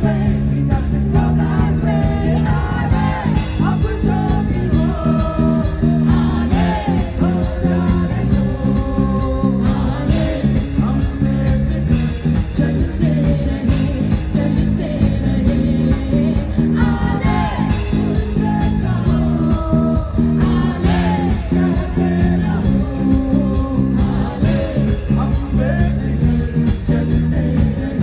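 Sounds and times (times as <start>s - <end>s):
live band playing pop song: 0.0s - 28.0s.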